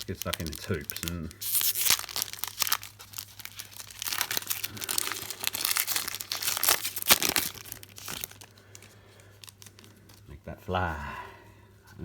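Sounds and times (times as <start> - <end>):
plastic wrapper crinkling and tearing: 0.0 - 10.3.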